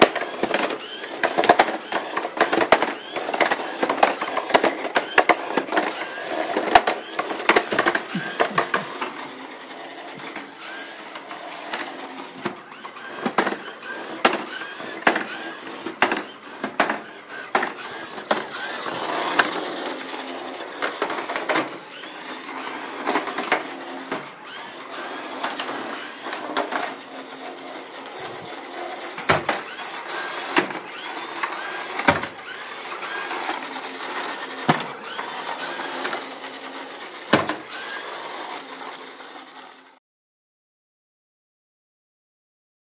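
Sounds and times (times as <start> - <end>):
robot drive motors whirring: 0.0 - 39.8.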